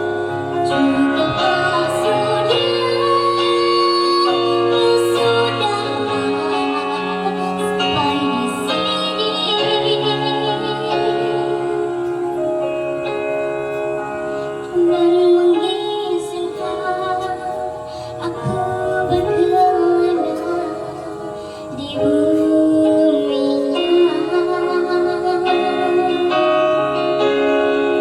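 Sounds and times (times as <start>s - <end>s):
woman singing with vibrato: 0.0s - 13.5s, 14.4s - 28.0s
sustained instrumental backing: 0.0s - 28.0s.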